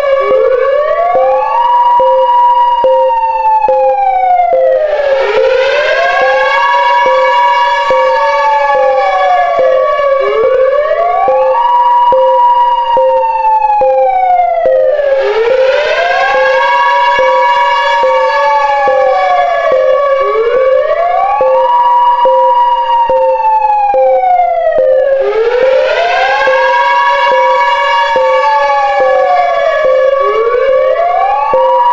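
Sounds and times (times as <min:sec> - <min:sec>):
air-raid siren wailing: 0:00.0 - 0:31.9
steady lower tone: 0:00.0 - 0:31.9.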